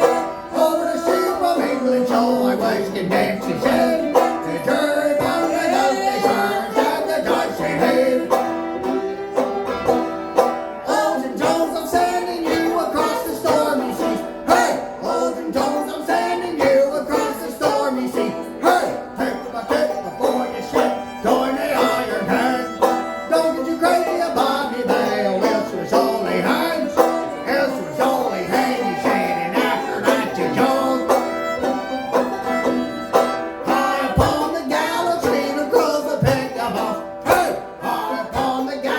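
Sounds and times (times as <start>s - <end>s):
acoustic folk band playing: 0.0s - 38.9s.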